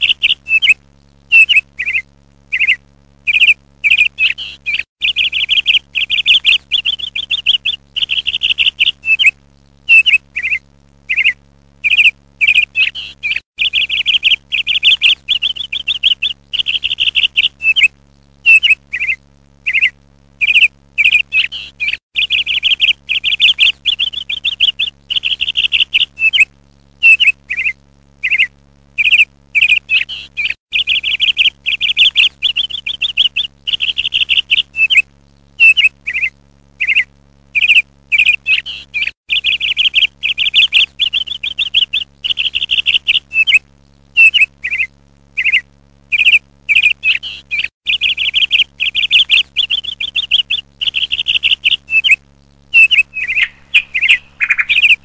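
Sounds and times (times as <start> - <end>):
bird chirping and trilling: 0.0 - 9.3, 9.9 - 17.9, 18.5 - 35.0, 35.6 - 43.6, 44.2 - 55.0.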